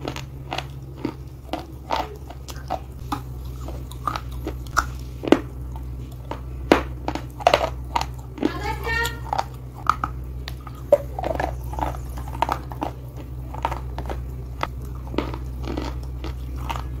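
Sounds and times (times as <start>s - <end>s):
slate crunching and cracking: 0.0s - 17.0s
steady low hum: 0.0s - 17.0s.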